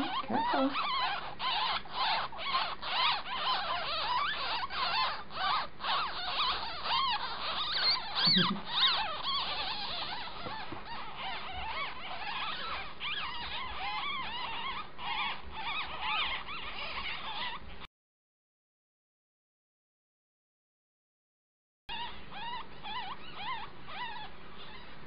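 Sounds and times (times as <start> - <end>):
ferret kits squeaking: 0.0 - 17.9, 21.9 - 25.0.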